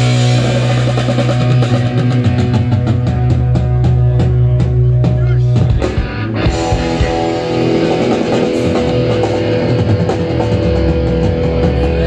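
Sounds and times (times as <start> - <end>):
amplified rock music: 0.0 - 12.0
bass guitar: 0.0 - 12.0
electric guitar: 0.0 - 12.0.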